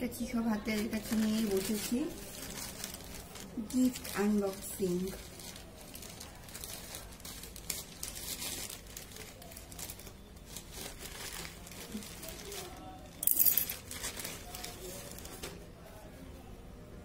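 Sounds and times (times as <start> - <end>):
packaging crinkling and rustling: 0.7 - 15.7.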